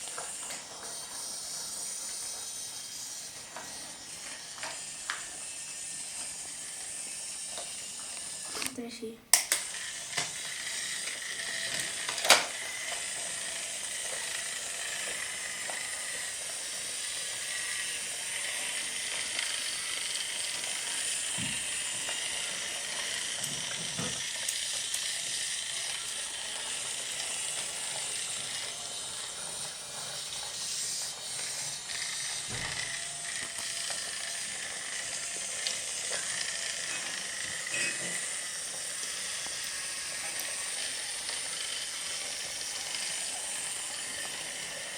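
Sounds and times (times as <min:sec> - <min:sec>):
toy train motor whirring: 0:00.0 - 0:44.9.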